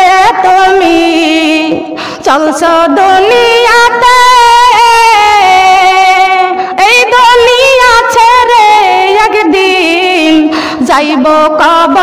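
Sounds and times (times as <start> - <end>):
woman singing devotional song: 0.0 - 12.0.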